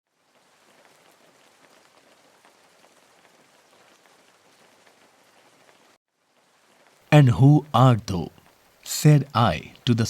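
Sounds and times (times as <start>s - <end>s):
soft rain patter: 0.1s - 10.0s.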